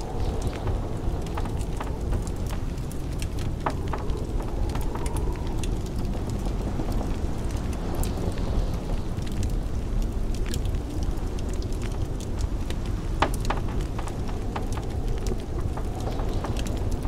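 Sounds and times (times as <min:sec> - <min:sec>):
blizzard wind rushing: 0:00.0 - 0:17.0
fireplace crackling and popping: 0:00.0 - 0:17.0.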